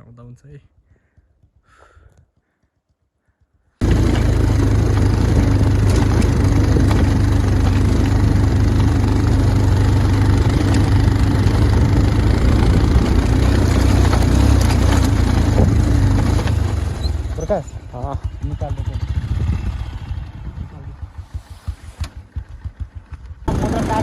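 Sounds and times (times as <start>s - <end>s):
motorcycle engine running: 3.4s - 24.0s.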